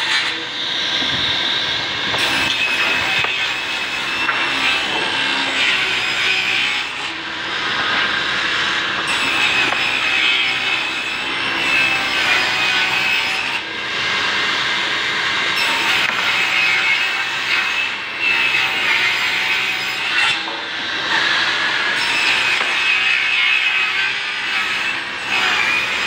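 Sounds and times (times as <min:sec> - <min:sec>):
circular saw cutting timber: 0:00.0 - 0:26.0.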